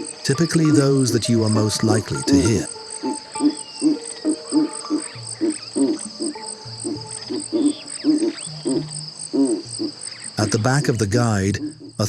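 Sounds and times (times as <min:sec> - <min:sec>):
frog-like croaking calls: 0:00.0 - 0:12.0
insects chirring: 0:00.0 - 0:12.0.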